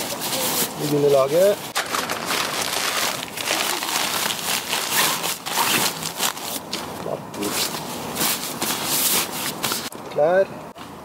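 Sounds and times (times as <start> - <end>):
fabric rustling and crinkling: 0.0 - 9.9.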